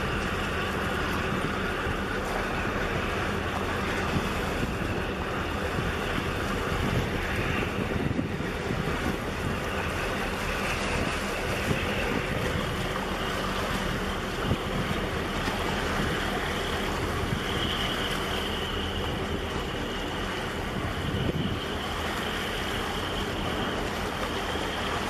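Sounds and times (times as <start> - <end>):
faint high whine: 0.0 - 25.0
tugboat diesel engine drone: 0.0 - 25.0
wind buffeting microphone: 0.0 - 25.0.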